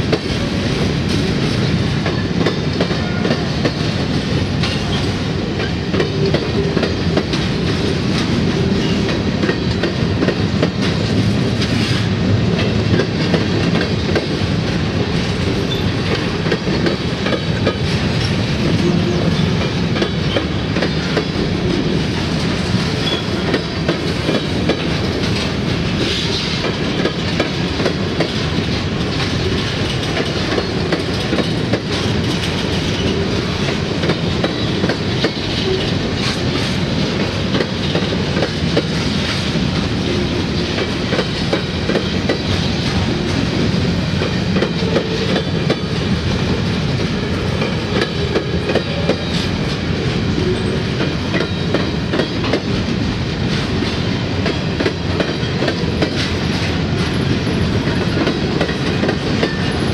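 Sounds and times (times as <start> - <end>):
freight train wheels clicking over rails: 0.0 - 59.9.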